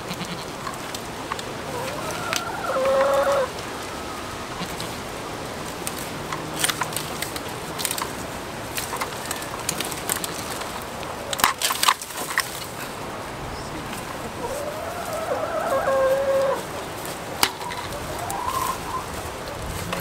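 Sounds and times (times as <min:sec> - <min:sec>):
goats chewing twigs and leaves: 0:00.0 - 0:20.0.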